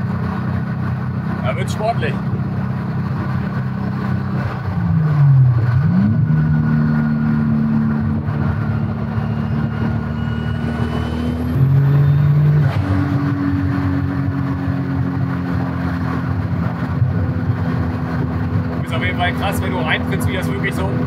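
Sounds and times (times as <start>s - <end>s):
car engine revving under full throttle: 0.0s - 21.0s.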